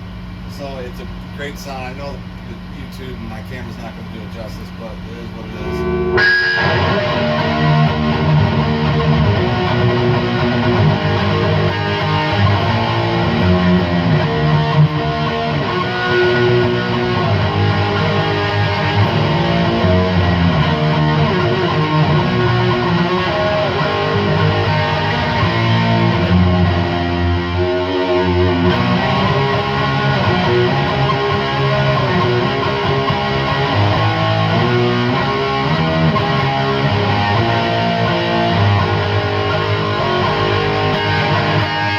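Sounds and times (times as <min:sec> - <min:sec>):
distorted electric guitar riffing: 0:00.0 - 0:41.9.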